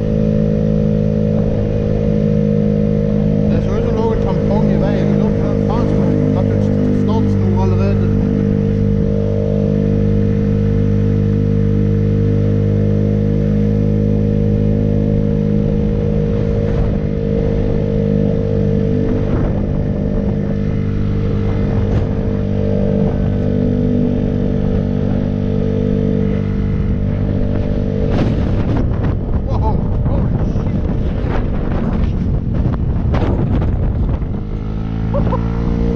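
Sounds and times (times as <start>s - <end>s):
small motorbike engine running: 0.0s - 35.9s.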